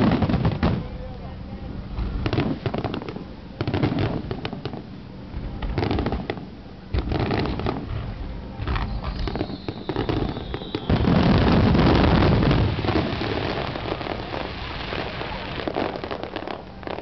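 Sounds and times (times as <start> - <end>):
fireworks bursting: 0.0 - 1.0, 1.9 - 17.0
fireworks crackling: 0.0 - 1.2, 1.9 - 17.0.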